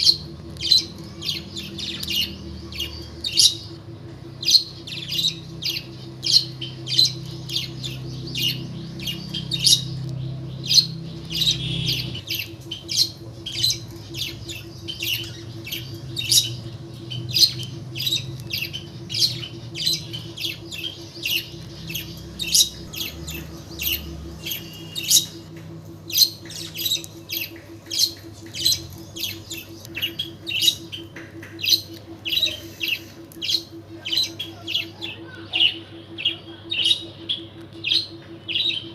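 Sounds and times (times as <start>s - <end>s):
pet bird squawking and chirping: 0.0s - 38.9s.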